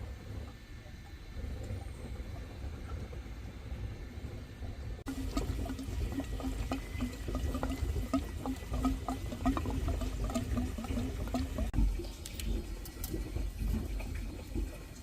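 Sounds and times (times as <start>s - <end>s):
water gurgling through drain: 0.0s - 15.0s
water splashes and bubbling: 0.0s - 15.0s.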